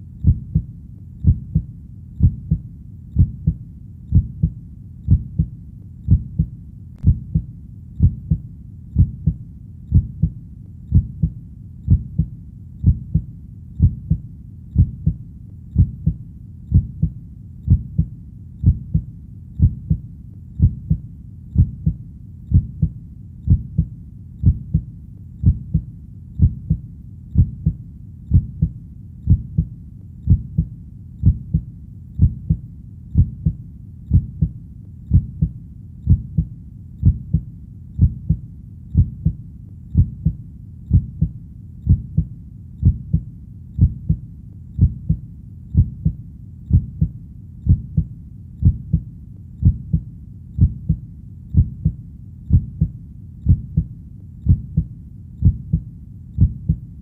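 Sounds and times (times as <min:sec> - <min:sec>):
heartbeat thumps: 0:00.0 - 0:56.9
faint low rumble: 0:00.0 - 0:57.0.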